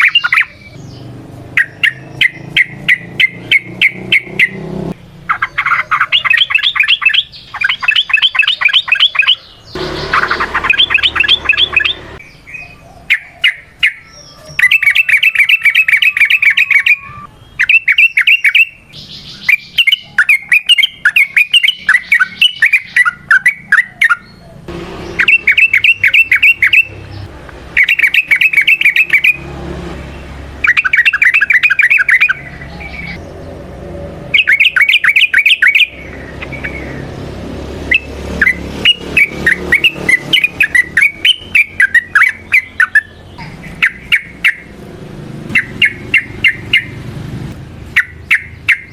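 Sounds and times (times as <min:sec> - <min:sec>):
bird chattering song: 0:00.0 - 0:29.4, 0:30.0 - 0:33.6, 0:34.2 - 0:48.9.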